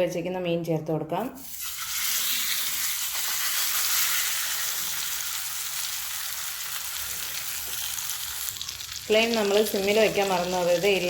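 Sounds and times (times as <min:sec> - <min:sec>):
fish sizzling in hot oil: 0:01.4 - 0:11.0.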